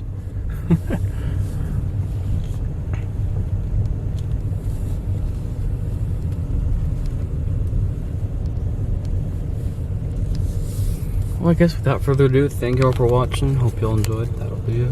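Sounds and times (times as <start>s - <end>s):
car engine rumbling: 0.0s - 14.9s.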